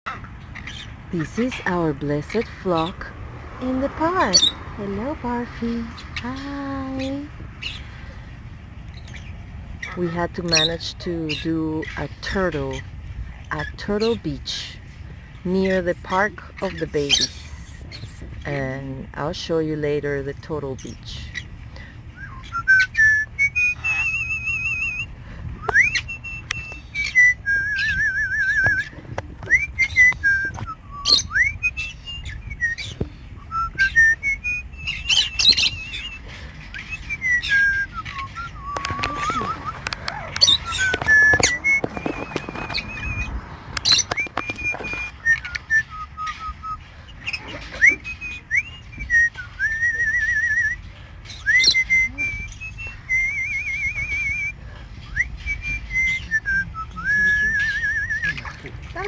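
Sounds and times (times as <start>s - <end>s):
parrots whistling and chattering: 0.1s - 3.0s, 4.0s - 8.1s, 8.9s - 14.6s, 15.6s - 18.6s, 20.7s - 59.0s.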